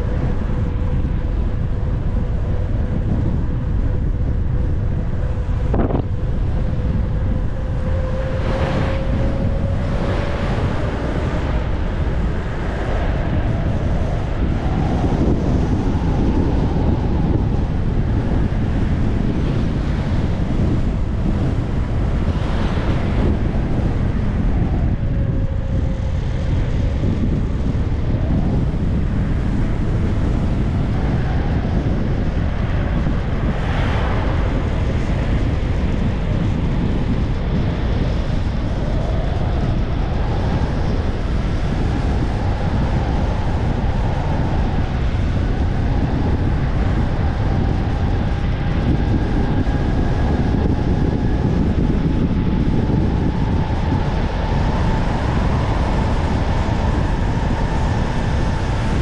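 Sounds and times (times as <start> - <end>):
faint whining tones: 0.0 - 59.0
wind buffeting microphone: 0.0 - 59.0.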